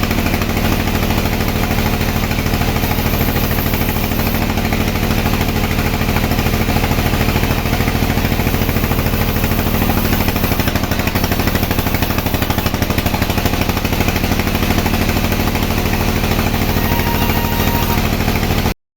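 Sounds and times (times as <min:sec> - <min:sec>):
sawmill machinery droning: 0:00.0 - 0:18.8.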